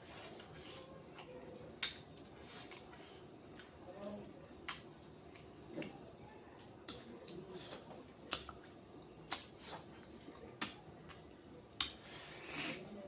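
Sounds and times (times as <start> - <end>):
person chewing: 0.0 - 3.8, 4.6 - 6.0, 6.6 - 12.8.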